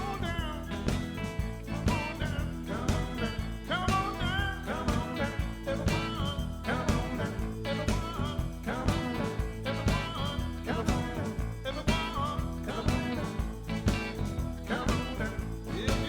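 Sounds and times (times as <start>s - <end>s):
band playing with steady beat: 0.0s - 16.0s.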